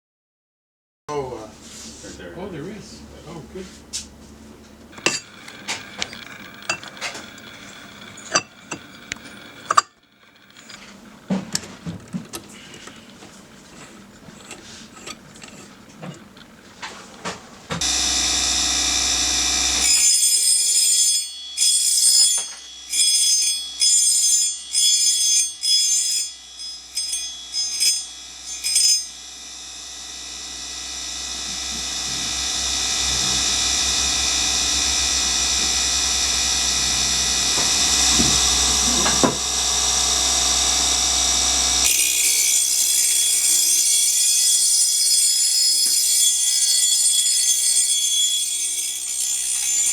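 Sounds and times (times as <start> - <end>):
bench grinder whining: 1.1 - 49.9.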